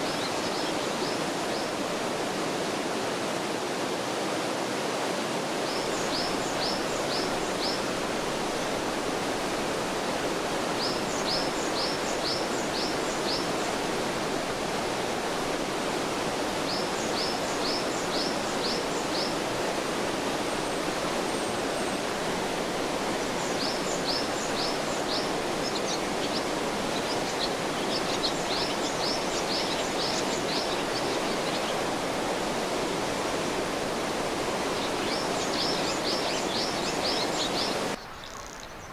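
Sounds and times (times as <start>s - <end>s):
songbird singing: 0.0s - 1.8s, 5.7s - 14.7s, 16.4s - 38.9s
stream rushing over rocks: 0.0s - 38.0s.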